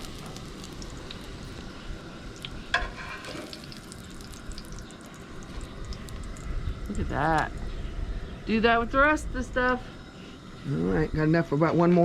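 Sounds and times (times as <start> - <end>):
patties sizzling in oil: 0.0 - 11.2.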